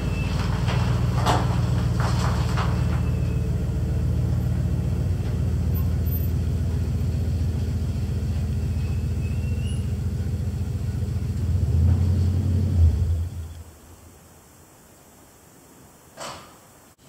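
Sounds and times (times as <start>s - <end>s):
vehicle engine humming: 0.0s - 14.2s.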